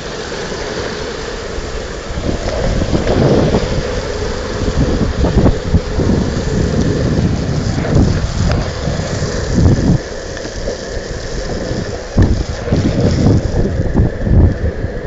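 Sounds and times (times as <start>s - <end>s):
wheels hissing on wet pavement: 0.0s - 15.0s
wind buffeting microphone: 0.0s - 15.0s.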